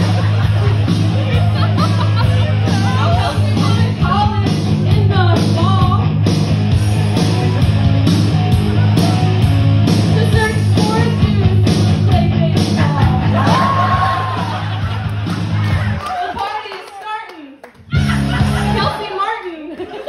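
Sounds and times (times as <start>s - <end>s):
loud backing music: 0.0s - 17.0s, 17.7s - 19.5s.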